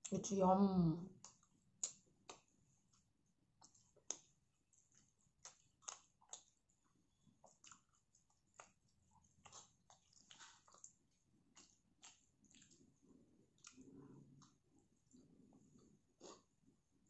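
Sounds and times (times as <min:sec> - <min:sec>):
faint chewing: 0:01.0 - 0:17.0.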